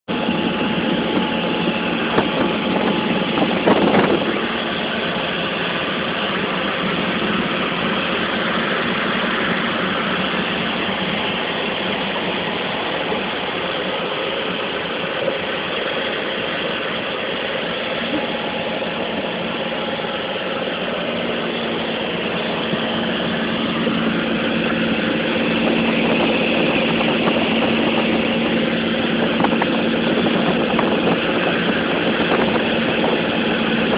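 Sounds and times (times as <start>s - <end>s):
airplane engine and propeller: 0.0s - 33.9s.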